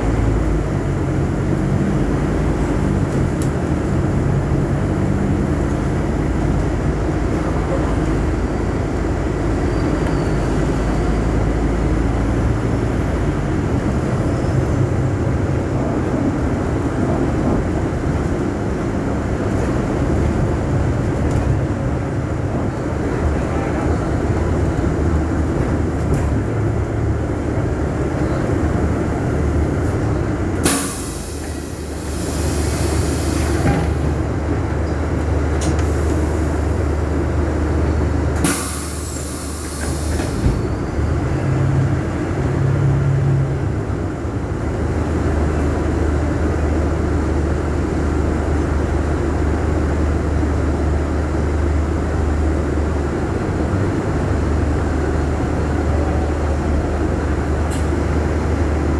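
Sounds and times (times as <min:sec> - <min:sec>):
bus engine drone: 0:00.0 - 0:58.9.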